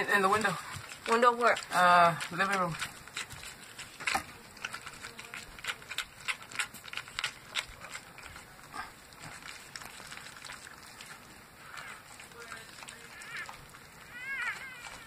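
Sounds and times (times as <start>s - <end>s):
dog licking puppy: 0.0s - 15.0s.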